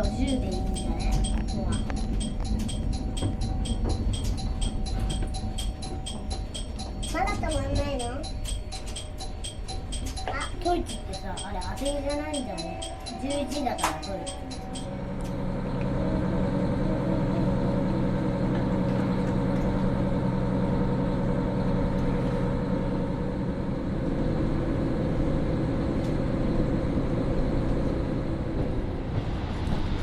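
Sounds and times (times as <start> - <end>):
diesel railcar engine drone: 0.0 - 30.0.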